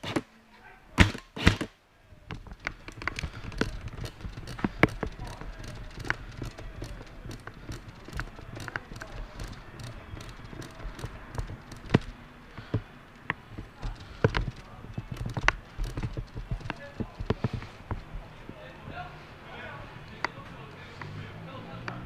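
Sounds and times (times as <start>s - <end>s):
sharp clicks and knocks: 0.0s - 0.3s, 1.0s - 19.0s
footsteps: 1.0s - 21.2s
low rumble of handling: 2.0s - 22.0s.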